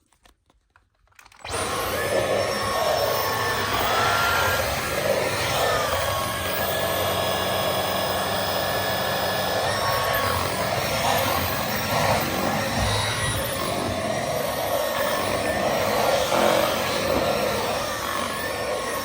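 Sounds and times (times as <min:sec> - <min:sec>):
vacuum cleaner running: 0:01.4 - 0:19.0.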